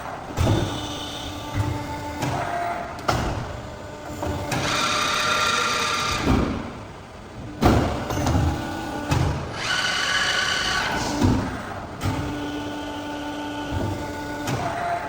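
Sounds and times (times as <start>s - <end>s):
machine clunks: 0.0s - 10.0s, 10.8s - 12.8s, 13.6s - 15.0s.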